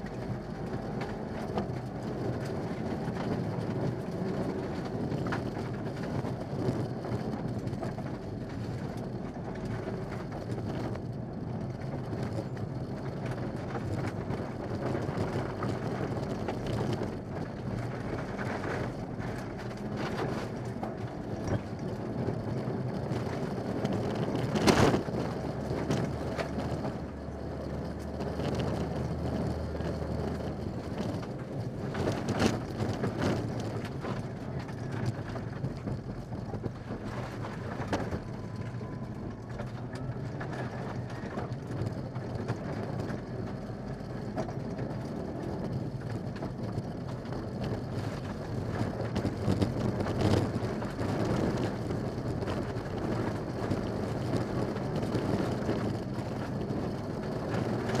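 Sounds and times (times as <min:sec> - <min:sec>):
rally car engine running hard: 0:00.0 - 0:58.0.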